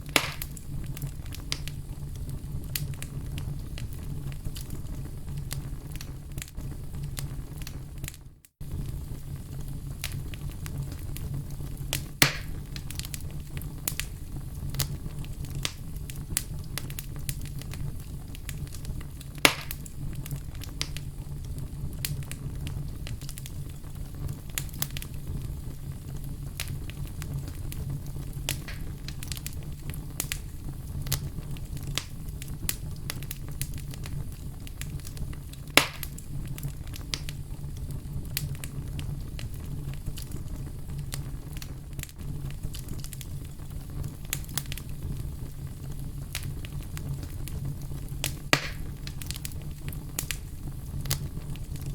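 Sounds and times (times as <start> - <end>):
loud fire pops: 0.0 - 51.9
low rumble of flames: 0.0 - 51.9
wood fire crackling: 0.0 - 51.9.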